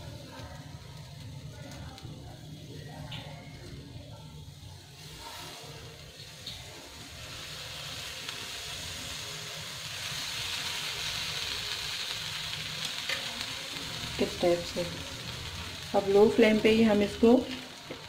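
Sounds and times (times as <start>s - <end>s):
batter sizzling on a griddle: 0.0s - 18.0s.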